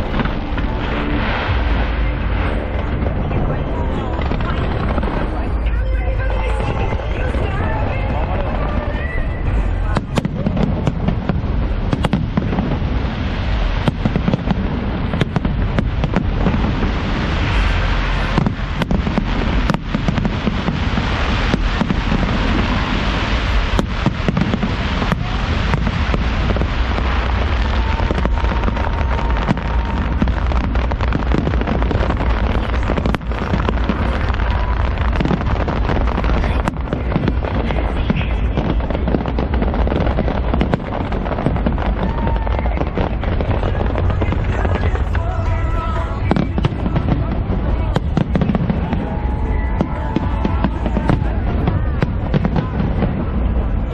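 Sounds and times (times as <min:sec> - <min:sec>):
fireworks bangs: 0:00.0 - 0:53.9
fireworks rumble and crackle: 0:00.0 - 0:53.9.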